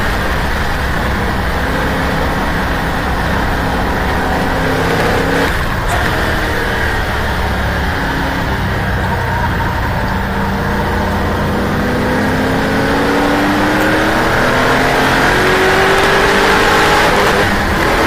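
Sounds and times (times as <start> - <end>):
racing car engine under load: 0.0 - 18.0
wind and road noise: 0.0 - 18.0.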